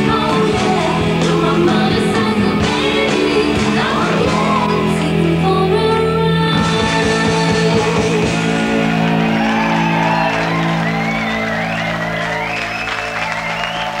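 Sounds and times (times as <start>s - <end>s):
electric guitars ringing: 0.0s - 14.0s.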